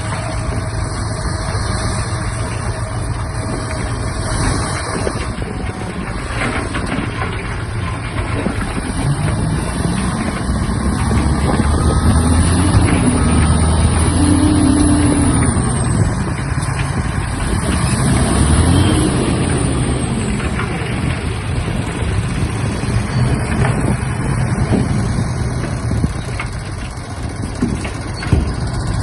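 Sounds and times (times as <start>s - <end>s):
bulldozer diesel engine revving: 0.0s - 29.0s.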